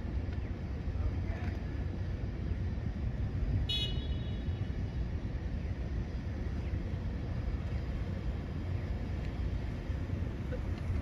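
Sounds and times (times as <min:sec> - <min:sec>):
vehicles idling and passing: 0:00.0 - 0:11.0.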